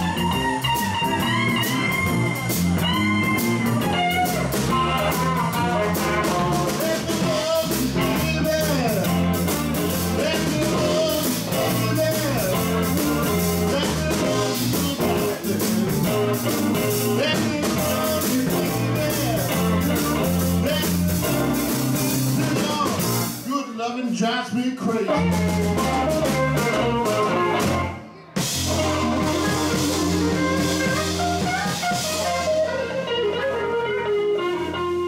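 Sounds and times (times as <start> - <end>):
lead guitar bending notes: 0.0 - 23.4, 25.1 - 35.0
live blues band playing: 0.0 - 23.7, 24.8 - 35.0.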